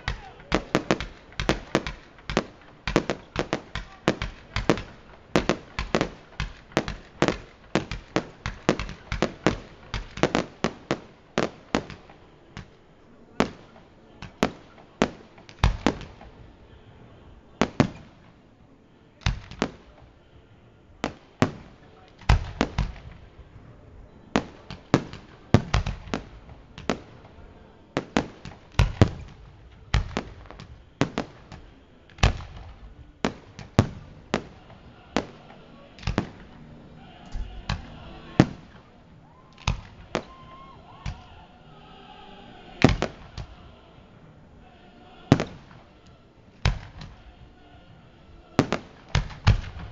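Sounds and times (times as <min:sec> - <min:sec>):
fireworks bursting with sharp bangs: 0:00.0 - 0:49.9.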